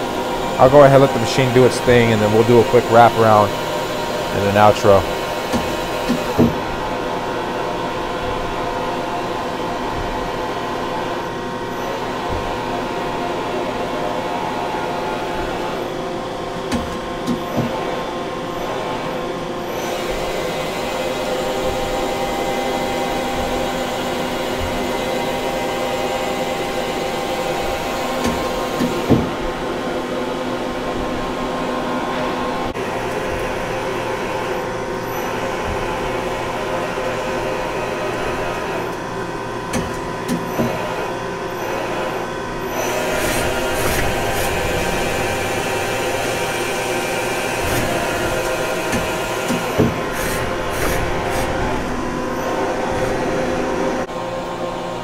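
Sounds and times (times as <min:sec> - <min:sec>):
machine hum with whining tones: 0:00.0 - 0:55.0.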